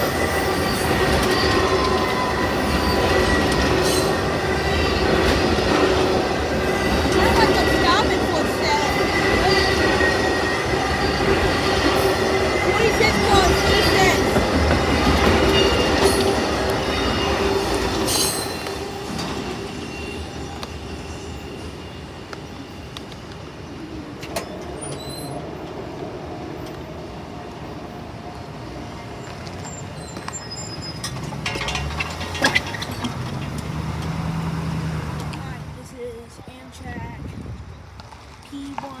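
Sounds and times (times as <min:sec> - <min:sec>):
wheels squealing: 0:00.0 - 0:25.7, 0:28.3 - 0:36.1
train rolling past: 0:00.0 - 0:39.0.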